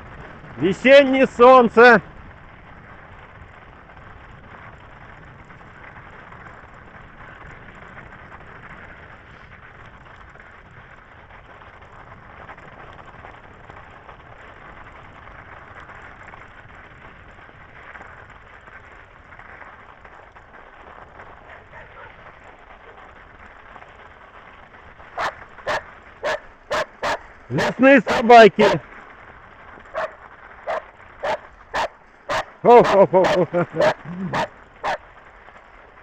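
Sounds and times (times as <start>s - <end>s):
bicycle rolling over frozen snow: 0.0s - 0.6s, 2.0s - 27.5s, 28.8s - 32.6s.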